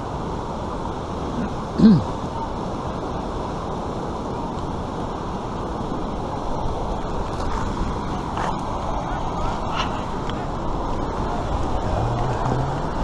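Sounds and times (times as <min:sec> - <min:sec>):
white water rushing: 0:00.0 - 0:13.0.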